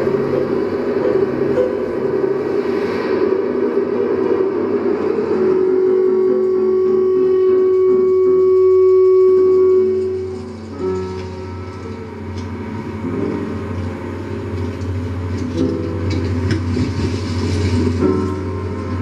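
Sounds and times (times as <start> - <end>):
held electronic drone tone: 0.0 - 16.2
steady low hum: 0.0 - 19.0.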